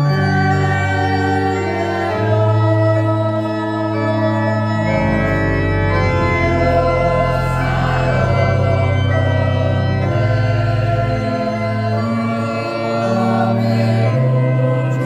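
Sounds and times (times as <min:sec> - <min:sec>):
electronic organ chords: 0:00.0 - 0:15.0
mixed choir singing: 0:00.2 - 0:05.3, 0:06.3 - 0:15.0.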